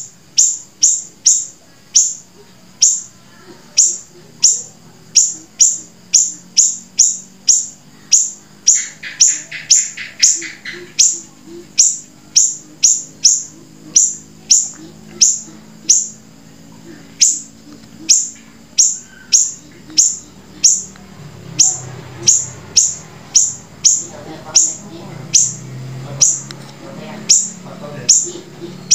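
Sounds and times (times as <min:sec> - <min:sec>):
lower repeated bird notes: 0:00.0 - 0:28.9
songbird calling: 0:00.0 - 0:28.9.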